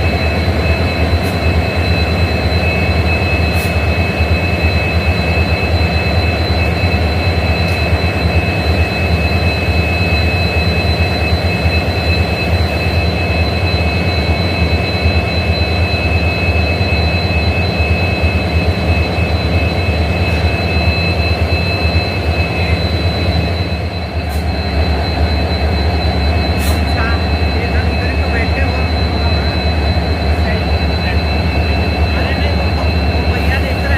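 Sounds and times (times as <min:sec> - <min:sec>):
diesel locomotives idling: 0:00.0 - 0:33.9
high engine whines: 0:00.0 - 0:33.9.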